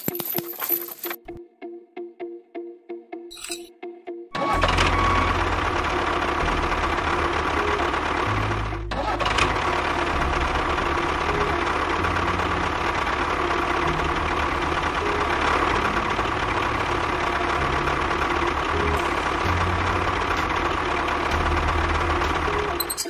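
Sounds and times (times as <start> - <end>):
engine idling: 4.4 - 22.9.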